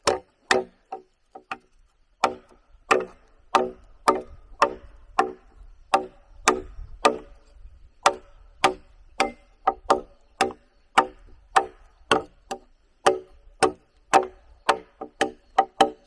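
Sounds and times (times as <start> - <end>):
tool striking wood with ringing: 0.0 - 7.4, 8.0 - 16.0.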